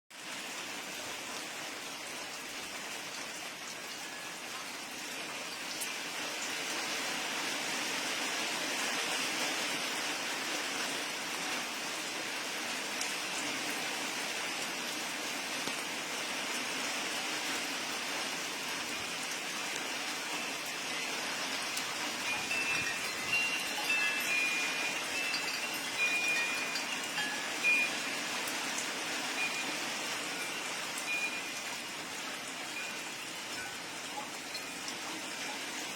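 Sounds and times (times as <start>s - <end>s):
steady rain falling: 0.1s - 35.9s.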